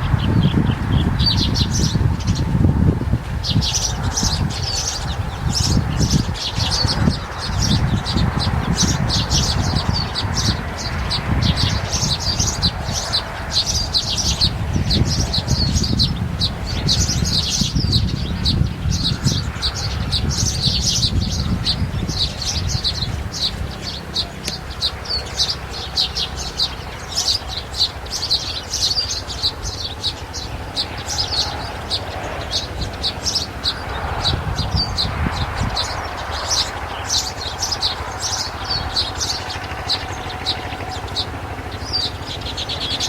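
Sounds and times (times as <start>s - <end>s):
low rumbling noise: 0.0s - 43.0s
small birds chirping: 0.0s - 43.0s.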